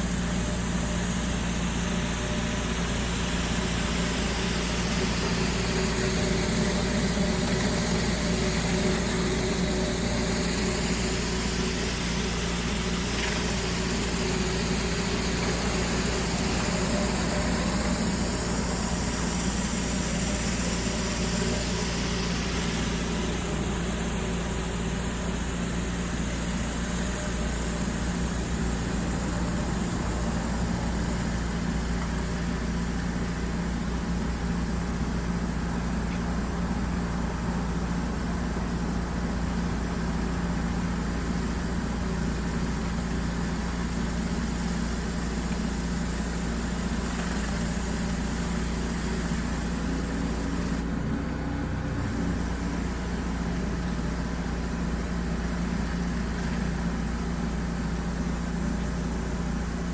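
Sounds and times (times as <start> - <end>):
high-pressure water spray hiss: 0.0 - 50.8, 52.0 - 59.9
pressure washer engine running: 0.0 - 50.9, 52.0 - 59.9.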